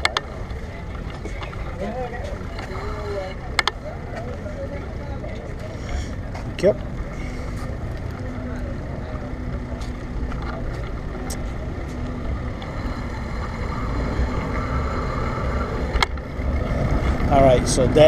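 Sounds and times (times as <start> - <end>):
bicycle wind and road noise: 0.0 - 18.0.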